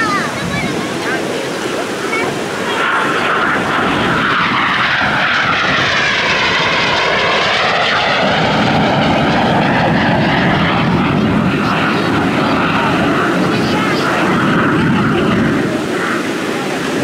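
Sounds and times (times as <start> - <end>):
jet roaring in flight: 0.0 - 17.0.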